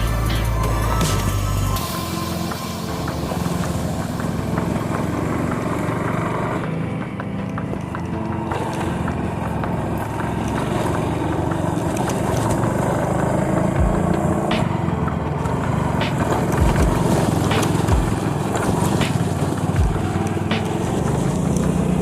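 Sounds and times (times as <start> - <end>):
small motorcycle engine running: 0.0 - 22.0.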